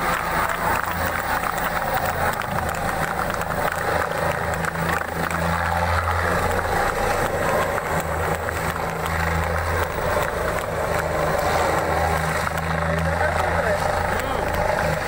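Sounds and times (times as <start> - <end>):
helicopter rotors and engine drone: 0.0 - 15.0.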